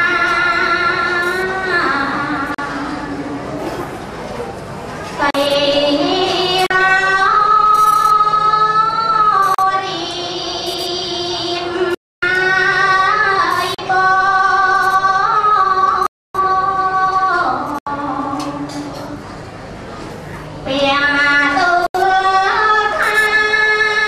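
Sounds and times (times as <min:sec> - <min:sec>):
woman singing into microphone: 0:00.0 - 0:03.4, 0:05.2 - 0:19.2, 0:20.7 - 0:24.0.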